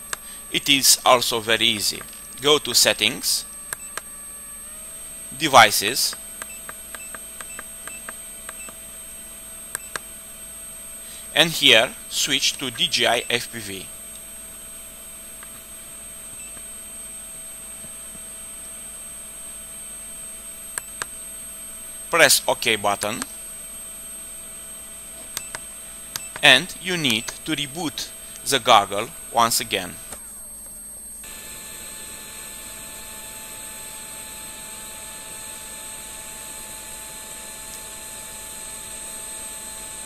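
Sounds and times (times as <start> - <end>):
small cooling fan whirring: 0.0 - 40.0
thin high whine: 0.0 - 40.0.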